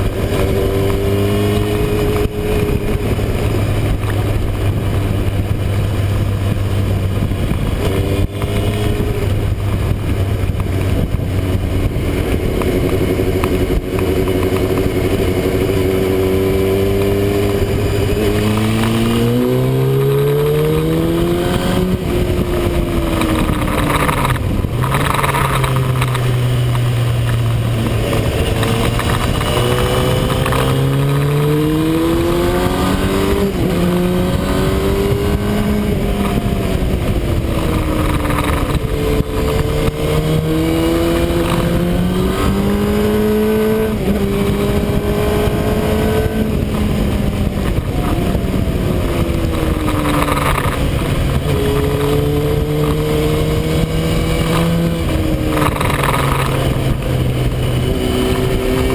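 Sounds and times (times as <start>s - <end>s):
motorcycle engine accelerating: 0.0s - 58.9s
wind and road noise: 0.0s - 58.9s.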